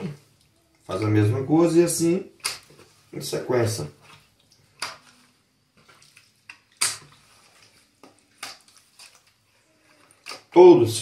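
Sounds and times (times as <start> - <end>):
wet squelching of raw chicken: 2.0 - 11.0.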